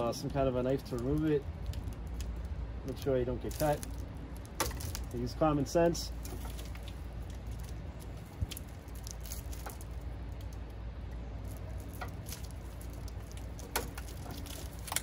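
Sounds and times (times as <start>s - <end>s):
plastic rustle: 0.0s - 5.4s, 6.1s - 10.7s, 11.4s - 15.0s.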